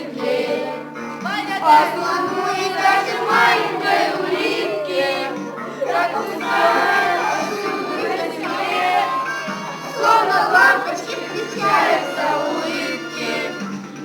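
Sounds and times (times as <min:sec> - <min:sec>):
children singing in chorus: 0:00.0 - 0:13.9
musical accompaniment: 0:00.0 - 0:14.0.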